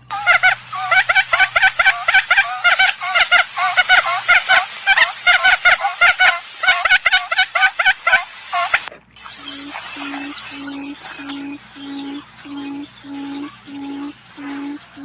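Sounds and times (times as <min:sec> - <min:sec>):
quail lure call chattering: 0:00.0 - 0:15.0.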